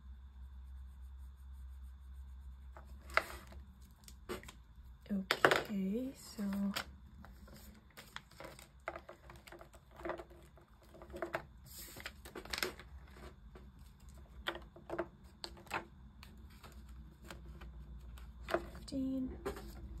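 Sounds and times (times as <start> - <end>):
plastic sleeves and banknotes crinkling: 2.8 - 20.0.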